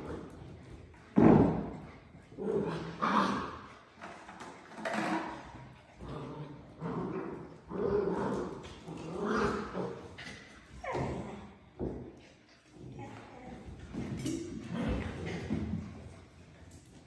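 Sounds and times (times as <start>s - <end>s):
puppies growling and yapping: 2.1s - 16.1s.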